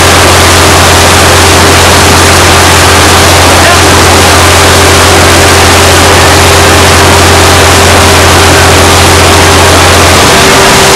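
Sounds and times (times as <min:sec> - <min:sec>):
steady low hum: 0:00.0 - 0:10.9
steam and water rushing: 0:00.0 - 0:10.9.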